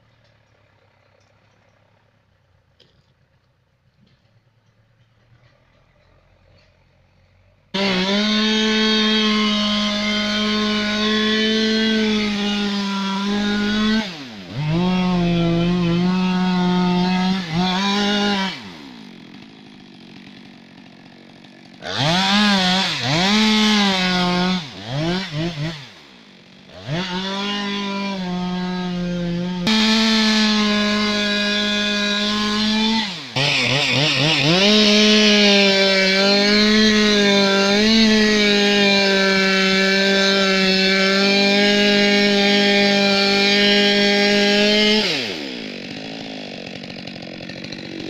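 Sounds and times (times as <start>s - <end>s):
chainsaw cutting and revving: 0.0s - 48.0s.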